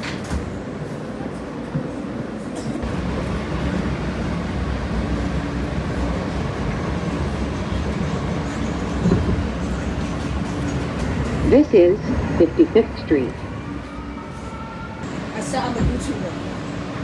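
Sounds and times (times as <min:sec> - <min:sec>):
subway train rumble: 0:00.0 - 0:17.0.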